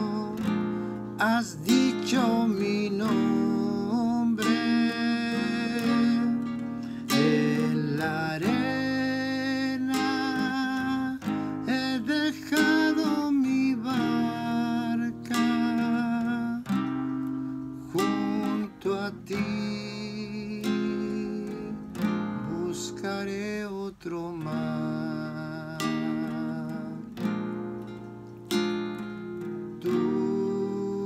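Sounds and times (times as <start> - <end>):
classical guitar chord accompaniment: 0.0 - 31.0.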